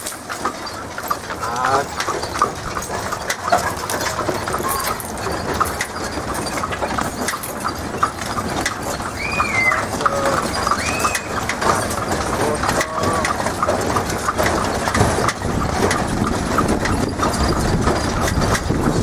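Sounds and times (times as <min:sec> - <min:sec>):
carriage knocking and rattling: 0:00.0 - 0:19.0
hooves clip-clopping on pavement: 0:00.0 - 0:19.0.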